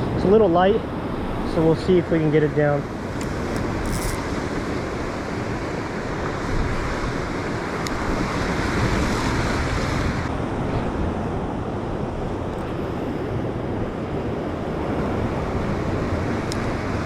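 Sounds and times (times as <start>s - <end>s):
wind on microphone: 2.8s - 17.0s.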